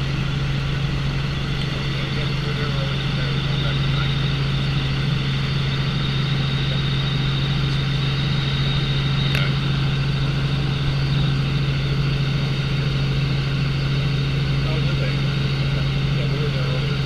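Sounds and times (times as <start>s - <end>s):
helicopter engine and rotors droning: 0.0s - 17.0s
high whine: 0.0s - 17.0s.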